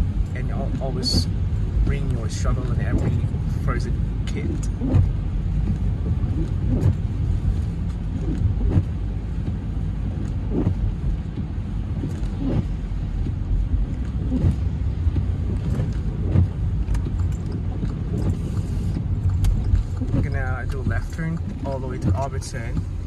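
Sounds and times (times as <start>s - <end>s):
tyres and engine rumbling: 0.0s - 23.0s
tyres swishing through slush: 0.1s - 23.0s.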